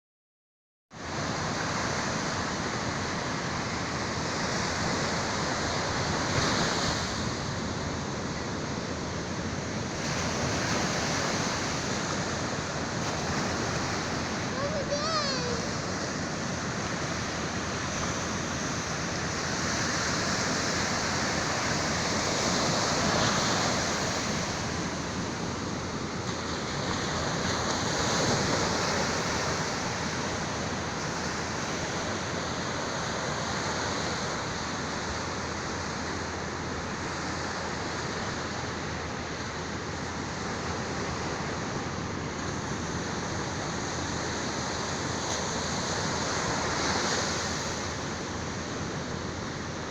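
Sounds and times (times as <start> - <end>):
sea waves breaking on shore: 1.0 - 49.9.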